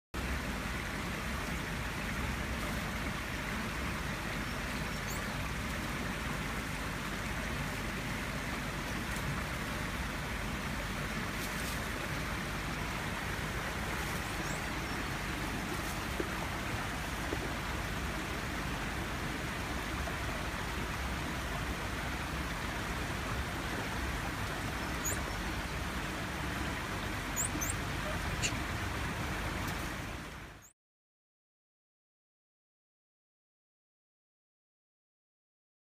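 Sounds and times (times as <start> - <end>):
outdoor background hiss: 0.2 - 30.7.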